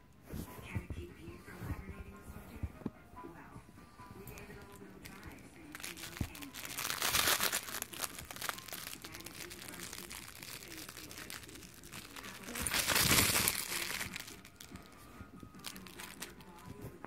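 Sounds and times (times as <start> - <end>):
dog chewing plush toy rustling: 1.5 - 17.0.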